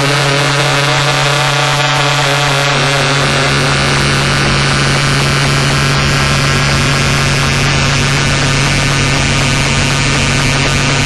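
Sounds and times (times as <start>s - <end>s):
dense hissing noise: 0.0s - 11.0s
electronic drone: 0.0s - 11.0s.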